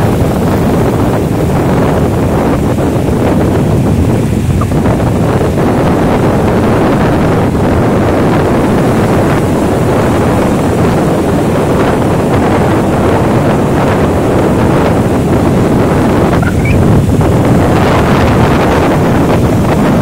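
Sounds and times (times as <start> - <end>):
surf breaking on beach: 0.0 - 20.0
wind buffeting microphone: 0.0 - 20.0.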